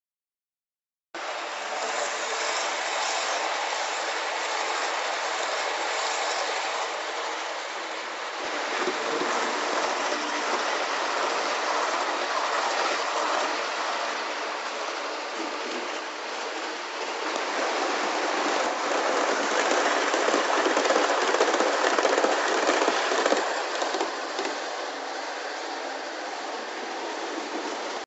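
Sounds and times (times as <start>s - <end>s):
model train rolling on track: 1.2s - 28.0s.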